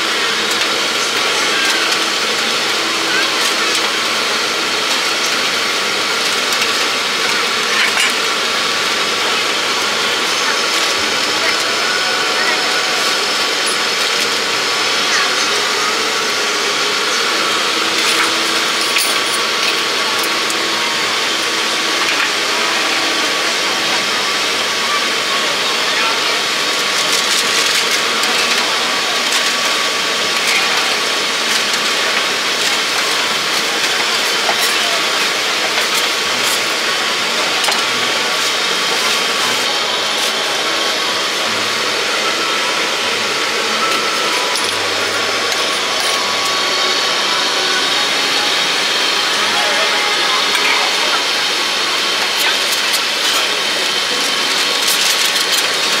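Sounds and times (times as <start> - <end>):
cooking equipment roaring: 0.0 - 56.0
faint voices: 0.0 - 56.0.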